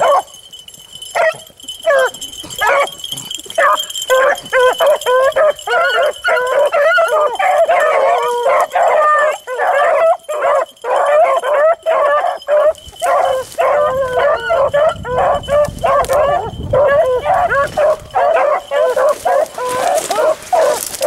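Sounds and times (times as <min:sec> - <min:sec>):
dogs baying: 0:00.0 - 0:21.0.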